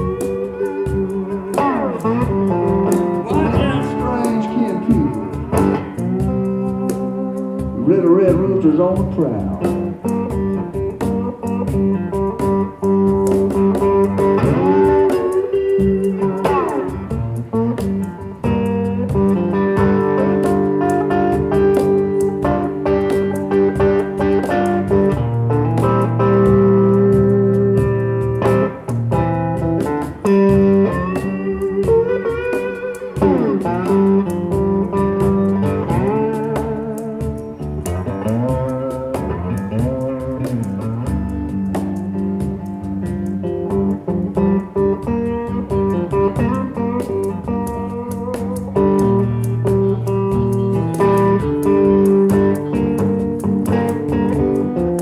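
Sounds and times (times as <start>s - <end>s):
slide electric guitar blues: 0.0s - 55.0s.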